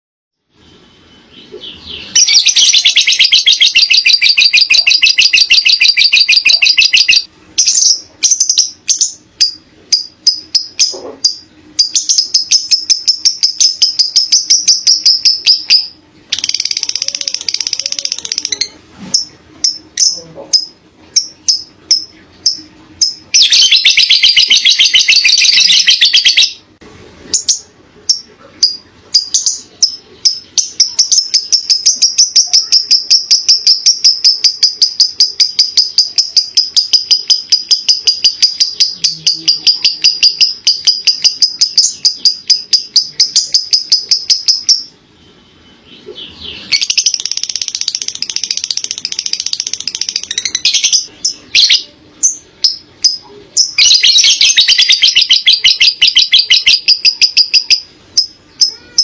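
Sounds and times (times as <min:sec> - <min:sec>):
bird chattering trills: 0:01.0 - 0:26.7, 0:27.3 - 0:59.0.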